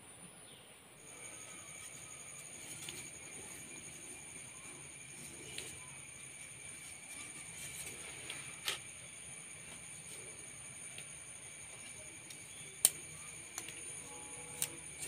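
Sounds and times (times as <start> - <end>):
steady high whine: 0.9 - 15.0.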